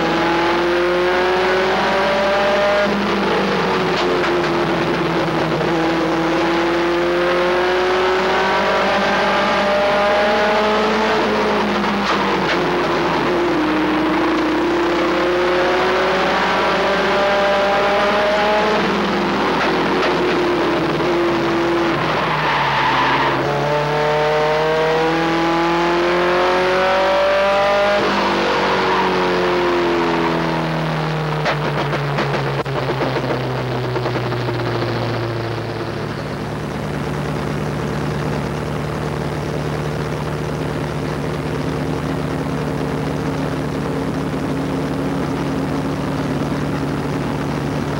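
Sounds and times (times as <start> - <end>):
truck engine from inside cab: 0.0 - 27.3, 27.9 - 47.9.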